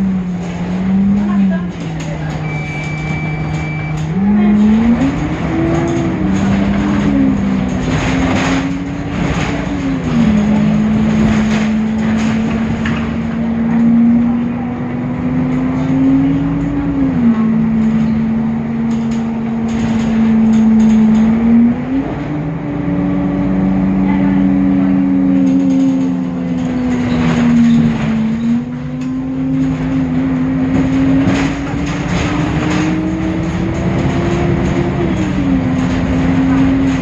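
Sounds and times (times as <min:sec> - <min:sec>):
knocks and rattles: 0:00.0 - 0:14.1, 0:15.3 - 0:22.2, 0:25.2 - 0:37.0
bus diesel engine droning: 0:00.0 - 0:37.0.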